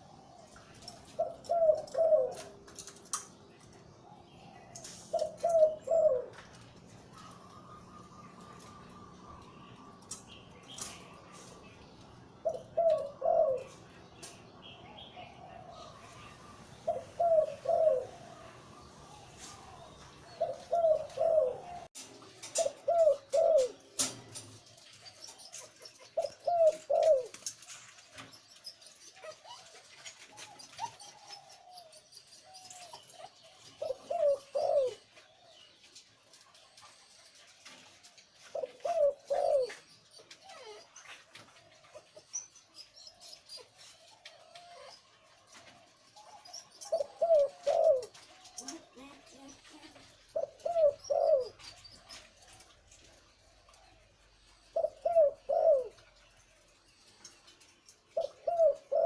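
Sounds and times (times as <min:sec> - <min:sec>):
dove cooing: 0:00.0 - 0:03.3, 0:04.1 - 0:28.3, 0:29.0 - 0:35.7, 0:36.4 - 0:56.2, 0:58.1 - 0:59.0.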